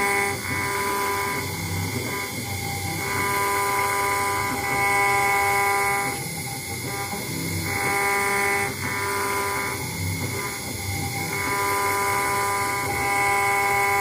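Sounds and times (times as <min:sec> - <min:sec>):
engraving router spindle whine: 0:00.0 - 0:14.0.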